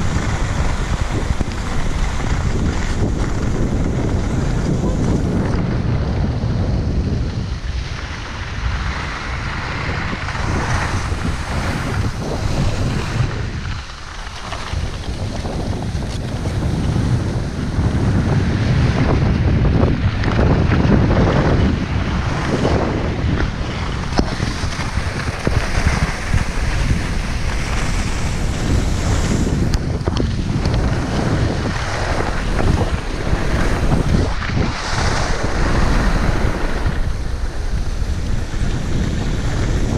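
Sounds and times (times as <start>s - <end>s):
skis scraping over snow: 0.0s - 39.9s
wind buffeting microphone: 0.0s - 39.9s.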